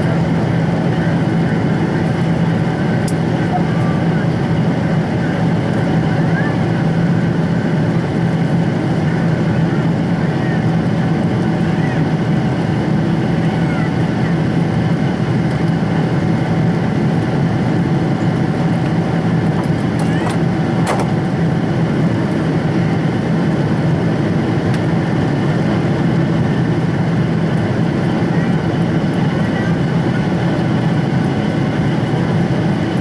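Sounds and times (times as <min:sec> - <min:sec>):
airliner cabin engine drone: 0:00.0 - 0:33.0.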